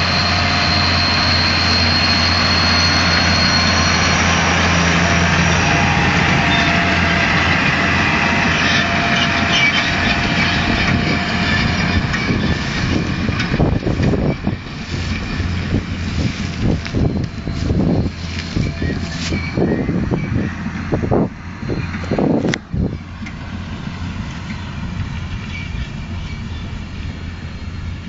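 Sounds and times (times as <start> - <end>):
tractor diesel engine running: 0.0 - 28.0
wind rumble on microphone: 1.8 - 28.0.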